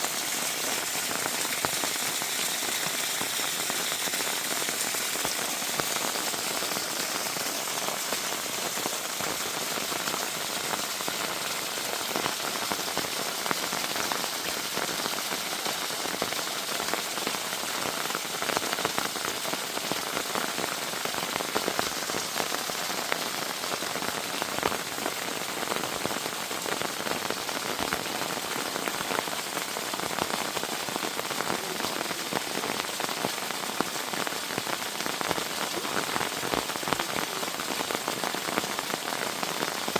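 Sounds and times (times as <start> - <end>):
heavy rain falling: 0.0 - 20.0, 21.0 - 39.9.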